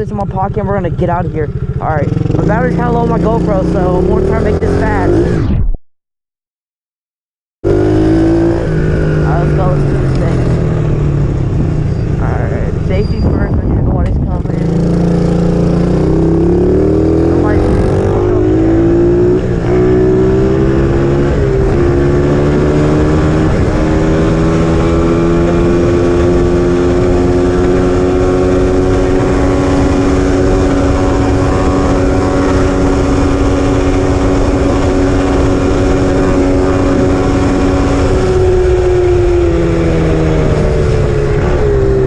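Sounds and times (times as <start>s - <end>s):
pit bike engine running: 0.0s - 5.3s, 7.6s - 42.0s.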